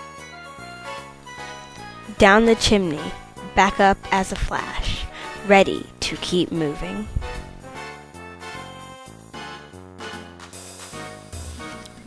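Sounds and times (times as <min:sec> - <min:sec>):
instrumental melody: 0:00.0 - 0:12.0.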